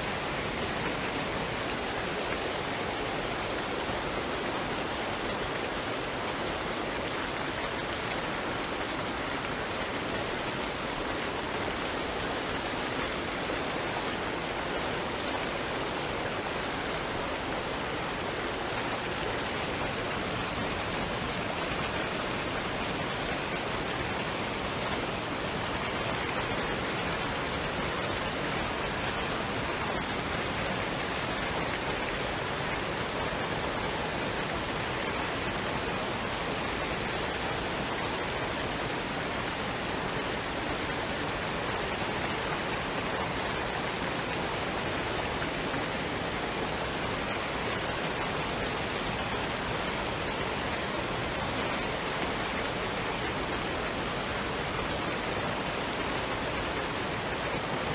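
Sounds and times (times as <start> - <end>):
waterfall and stream rushing: 0.0 - 57.9.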